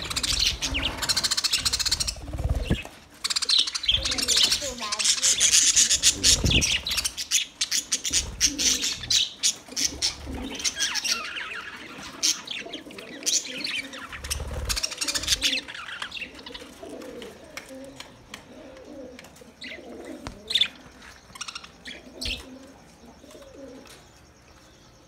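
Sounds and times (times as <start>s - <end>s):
budgerigars chirping and warbling: 0.0s - 16.8s, 19.5s - 24.0s.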